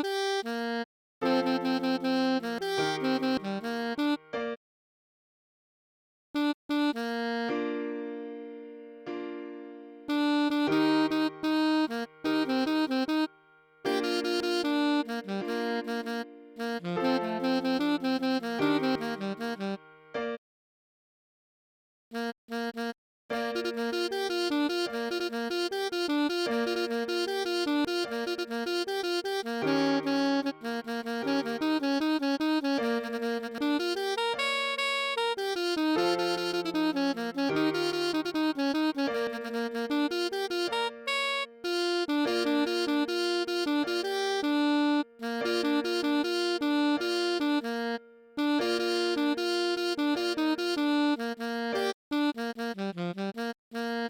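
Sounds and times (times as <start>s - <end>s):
electronic saxophone melody: 0.0s - 4.6s, 6.4s - 20.3s, 22.2s - 54.0s
bouncing keyboard accompaniment: 1.2s - 4.6s, 8.7s - 13.3s, 13.9s - 20.4s, 23.3s - 54.0s.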